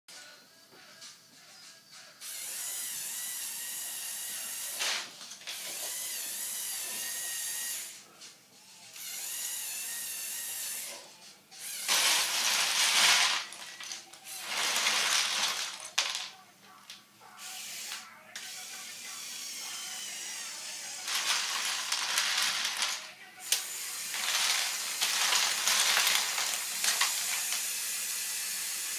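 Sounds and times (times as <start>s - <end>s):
toy electric motors whirring: 2.2s - 8.0s, 8.6s - 28.9s.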